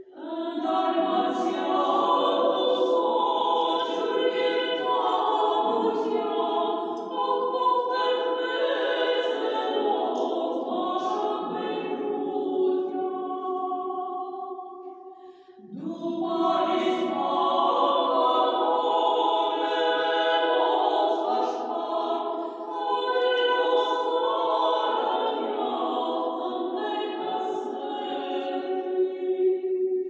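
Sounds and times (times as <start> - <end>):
choir singing a cappella chant: 0.0 - 30.0.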